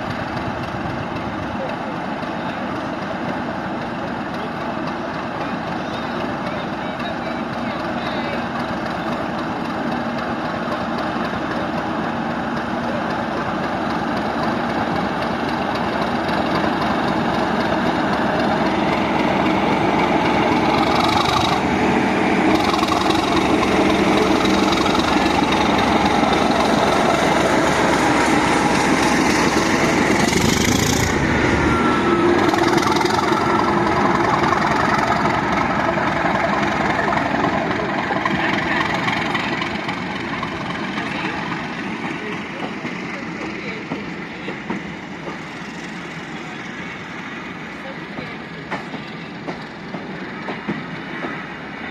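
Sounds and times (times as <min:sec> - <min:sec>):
diesel locomotive engine running: 0:00.0 - 0:51.9.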